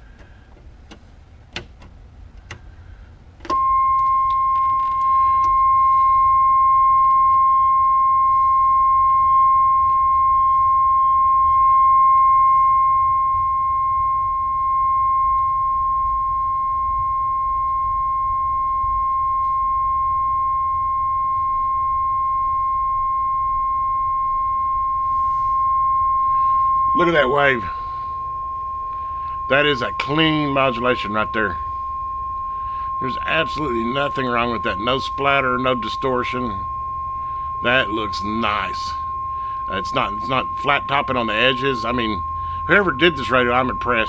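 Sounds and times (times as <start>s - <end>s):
low hum: 0.0s - 44.0s
steady test tone: 3.4s - 44.0s.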